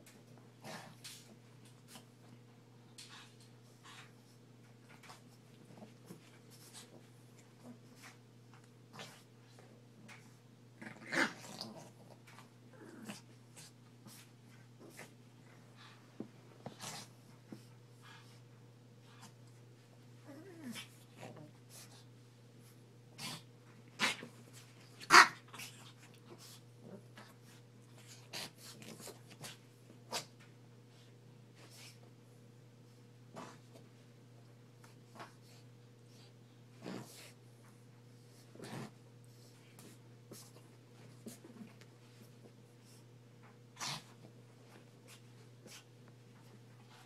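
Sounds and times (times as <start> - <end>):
dogs play-fighting noises: 0.0 - 32.2, 33.0 - 47.0.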